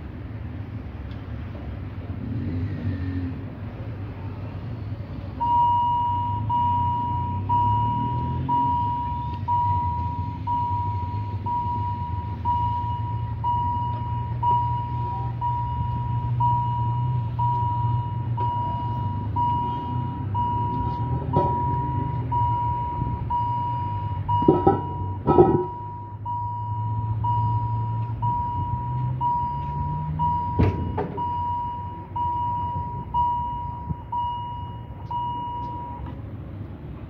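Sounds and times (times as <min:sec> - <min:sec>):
level crossing warning tone: 0:05.4 - 0:36.2.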